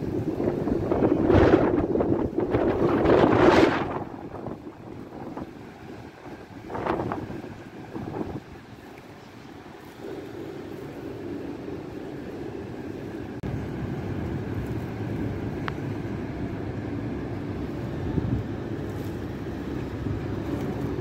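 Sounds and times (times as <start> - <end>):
city background rumble: 0.0 - 21.0.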